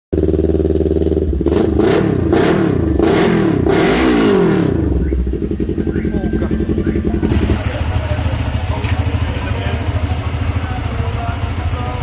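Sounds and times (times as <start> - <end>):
motorcycle engine idling and revving: 0.1 - 12.0.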